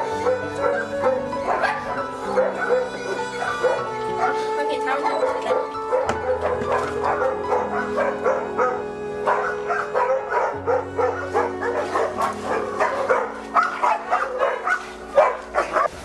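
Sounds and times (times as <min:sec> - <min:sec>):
background music with held notes: 0:00.0 - 0:16.0
dogs barking and yipping: 0:00.0 - 0:16.0.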